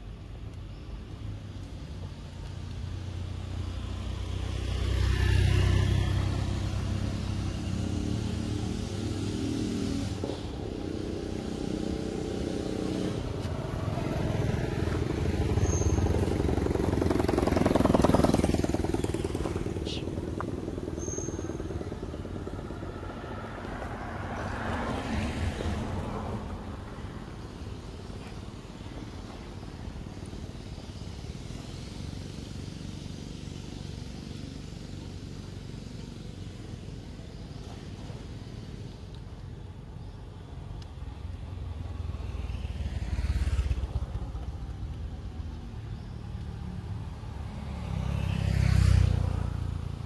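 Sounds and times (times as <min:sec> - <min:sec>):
vehicles passing on road: 0:00.0 - 0:50.0.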